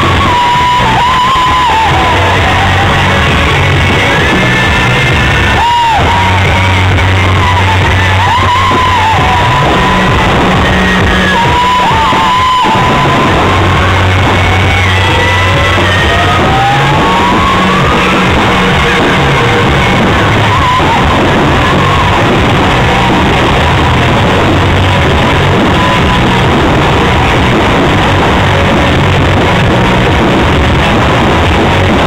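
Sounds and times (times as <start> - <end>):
loud rock music: 0.0 - 32.0.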